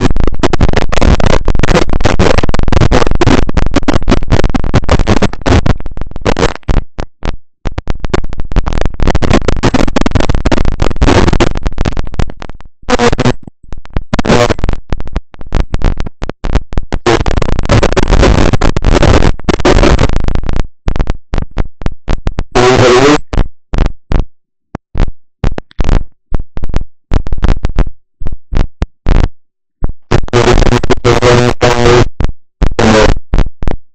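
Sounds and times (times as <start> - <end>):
crackling microphone static: 0.0 - 33.9.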